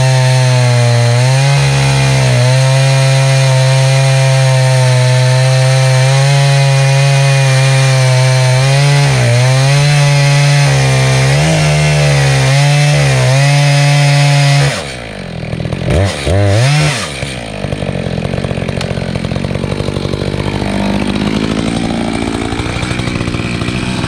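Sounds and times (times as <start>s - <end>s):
chainsaw cutting through log: 0.0s - 24.0s.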